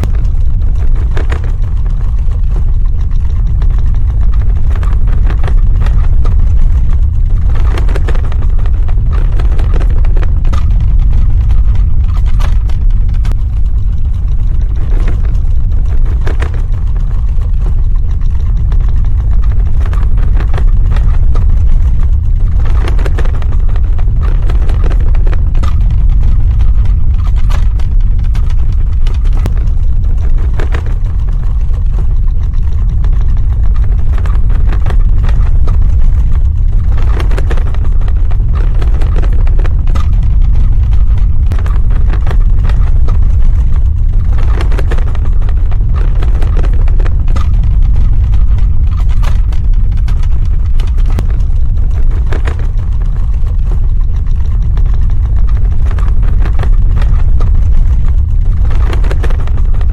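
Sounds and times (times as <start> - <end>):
deep rumble: 0.0 - 59.9.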